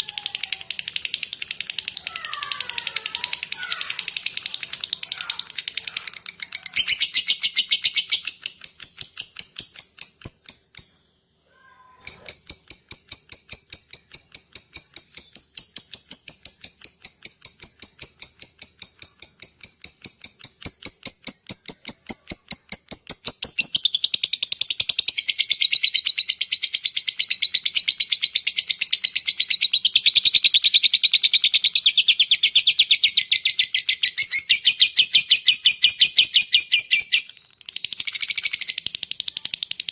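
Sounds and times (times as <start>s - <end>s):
bird chattering trill: 0.0s - 11.0s, 12.0s - 37.4s, 38.0s - 39.8s
bird high ticking calls: 0.0s - 11.0s, 12.1s - 39.9s.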